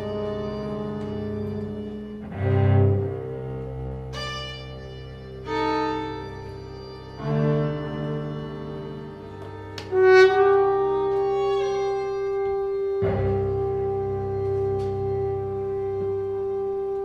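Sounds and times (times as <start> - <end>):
string quartet playing: 0.0 - 17.0.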